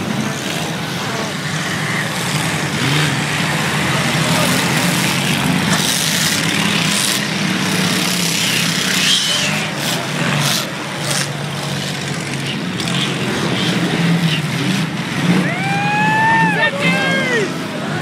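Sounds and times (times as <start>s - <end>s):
race car engines droning: 0.0s - 18.0s.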